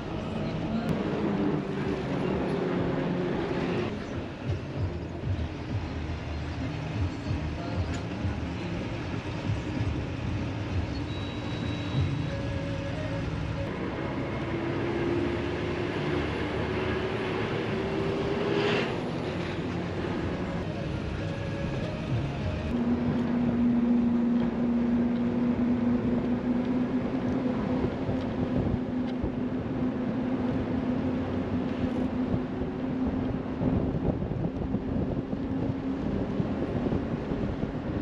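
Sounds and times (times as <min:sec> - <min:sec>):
bus engine running: 0:00.0 - 0:38.0
road rumble: 0:00.0 - 0:38.0.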